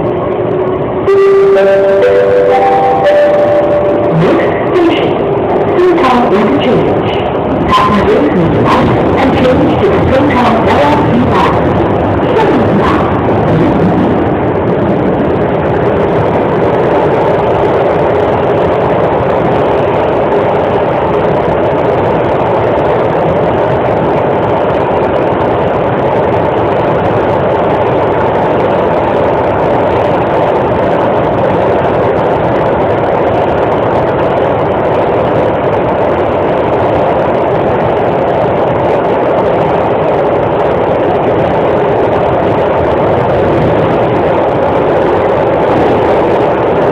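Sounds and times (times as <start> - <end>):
metro train rumble and hiss: 0.0 - 46.9.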